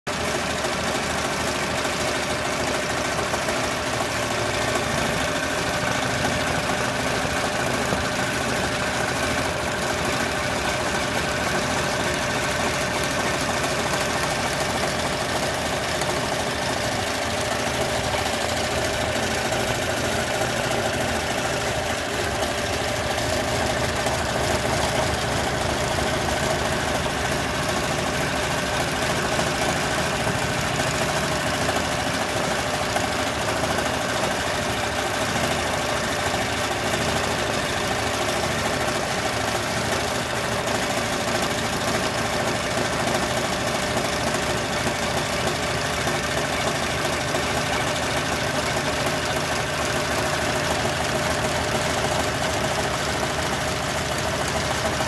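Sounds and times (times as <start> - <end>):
embroidery machine stitching: 0.1 - 55.0.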